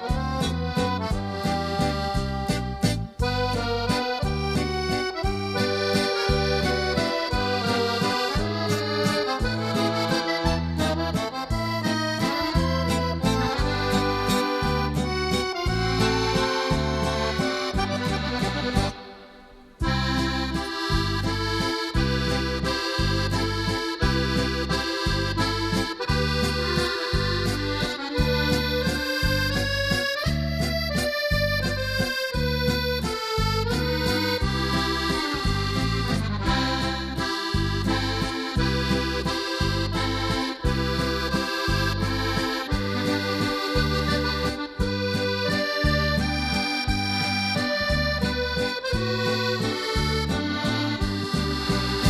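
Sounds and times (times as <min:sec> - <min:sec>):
bass beat: 0:00.0 - 0:52.0
sustained melody: 0:02.6 - 0:52.0.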